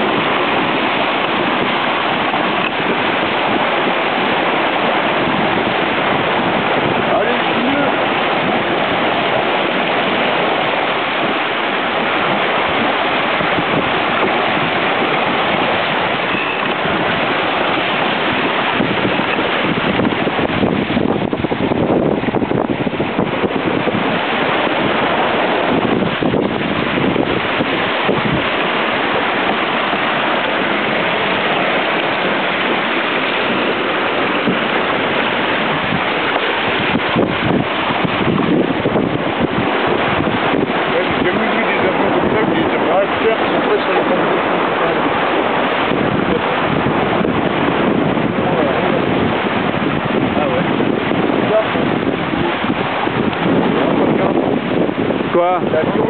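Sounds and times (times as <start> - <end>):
water rushing along boat hull: 0.0 - 56.0
wind on microphone: 0.0 - 56.0.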